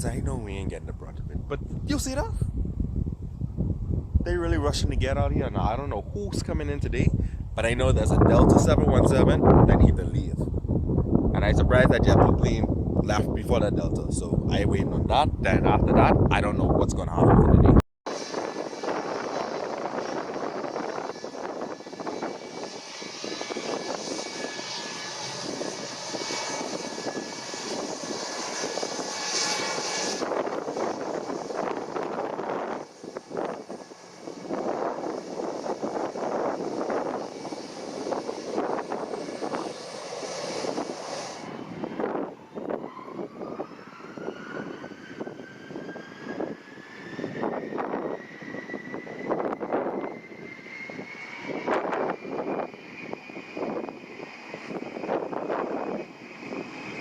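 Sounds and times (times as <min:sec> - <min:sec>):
airliner engines running: 0:00.0 - 0:57.0
wind buffeting microphone: 0:00.0 - 0:57.0.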